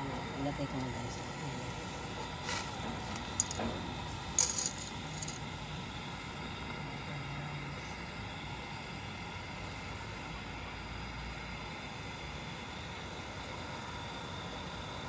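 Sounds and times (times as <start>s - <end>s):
boiling water hiss: 0.0s - 15.0s.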